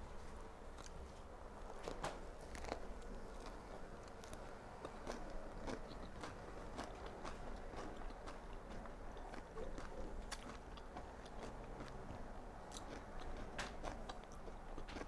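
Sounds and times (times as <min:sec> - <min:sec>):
person chewing crunchy food: 0:00.1 - 0:15.0.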